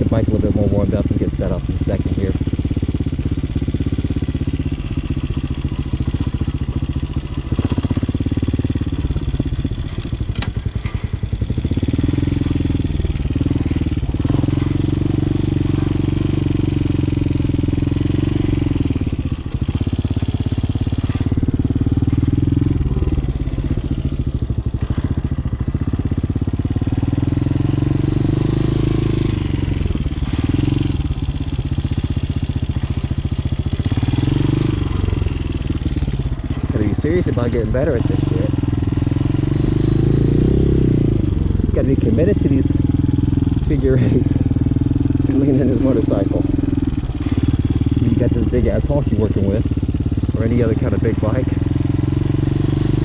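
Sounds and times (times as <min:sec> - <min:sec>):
motorcycle engine running slowly: 0:00.0 - 0:53.0.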